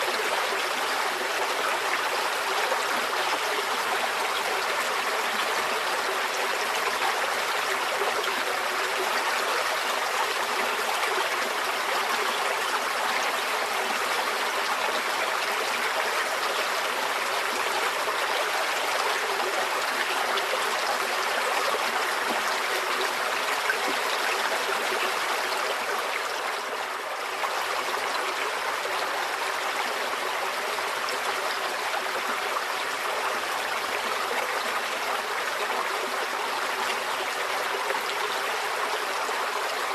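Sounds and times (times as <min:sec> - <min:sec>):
shallow stream flowing: 0:00.0 - 0:39.9.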